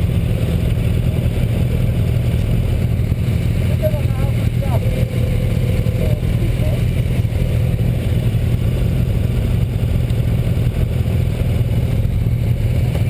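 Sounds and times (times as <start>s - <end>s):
motorcycle engines idling: 0.0s - 13.0s.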